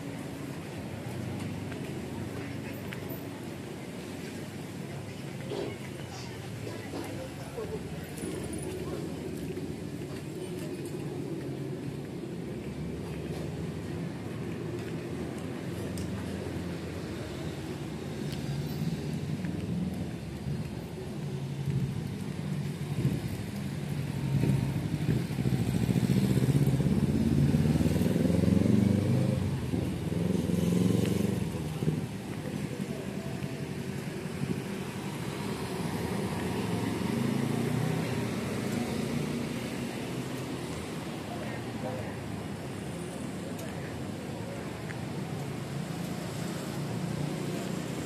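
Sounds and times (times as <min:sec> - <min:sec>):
passing vehicle engines rumbling: 0:00.0 - 0:48.0.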